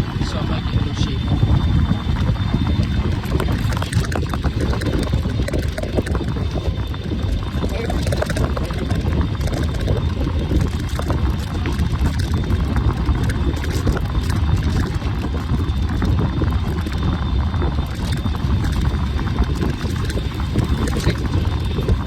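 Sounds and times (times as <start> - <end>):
bike tyre noise: 0.0 - 22.0
wind on microphone: 0.0 - 22.0
small rattles and clicks: 0.2 - 22.0.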